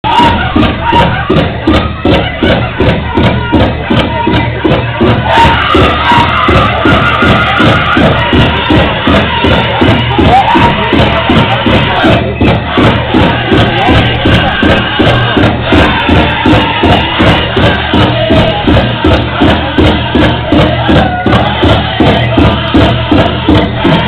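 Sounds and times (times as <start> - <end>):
big drum steady beat: 0.0 - 24.0
singers' voices wavering: 0.0 - 24.0.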